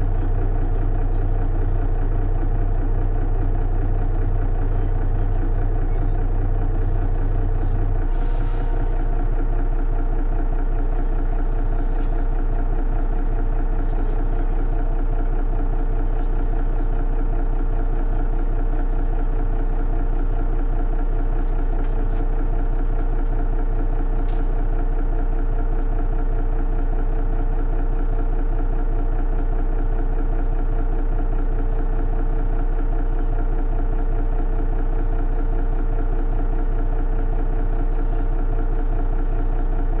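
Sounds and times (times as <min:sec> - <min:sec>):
bus engine humming: 0:00.0 - 0:40.0.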